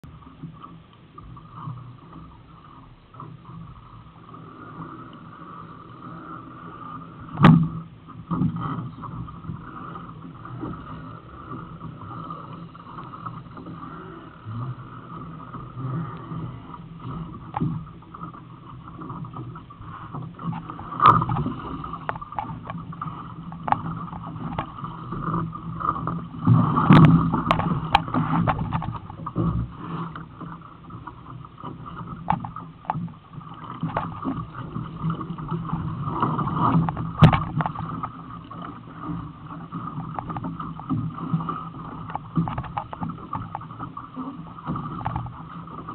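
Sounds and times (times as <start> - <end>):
water slapping against hull: 0.0 - 45.9
boat knocks and clicks: 7.2 - 45.9.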